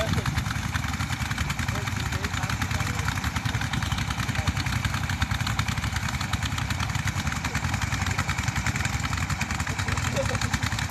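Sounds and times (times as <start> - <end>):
engine chugging steadily: 0.0 - 10.9.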